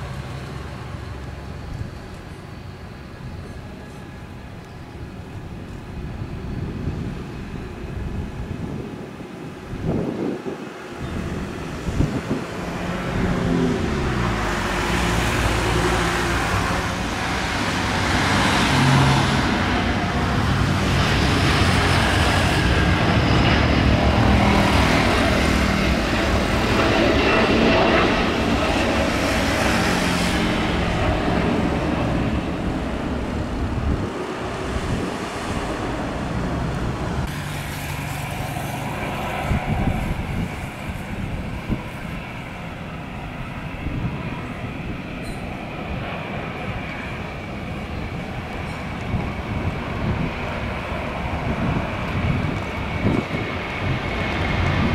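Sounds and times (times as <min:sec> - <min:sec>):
jet airliner roar at takeoff: 0:00.0 - 0:54.9.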